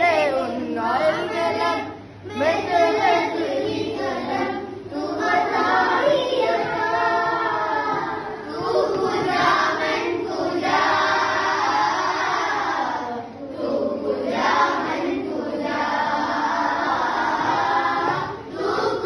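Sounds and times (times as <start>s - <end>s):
children singing together: 0.0s - 19.0s.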